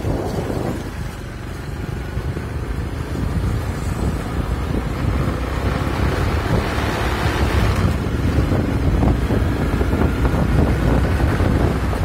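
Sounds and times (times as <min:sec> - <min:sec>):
motorcycle engines rumbling: 0:00.0 - 0:12.0
wind buffeting microphone: 0:00.0 - 0:12.0.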